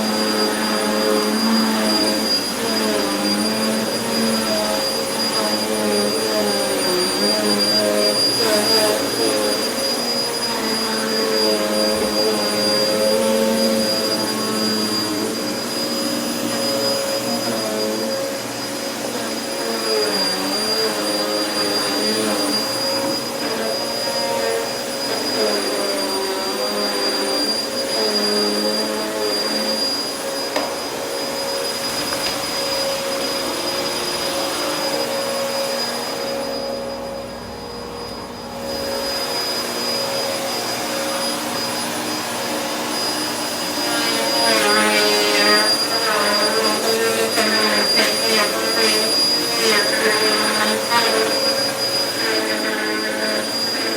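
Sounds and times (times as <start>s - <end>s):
vacuum cleaner on carpet: 0.0s - 53.9s.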